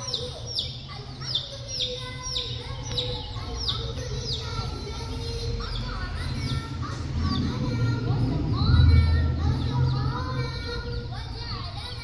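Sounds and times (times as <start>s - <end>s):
baby chicks peeping: 0.0s - 12.0s
low steady rumble: 2.0s - 12.0s.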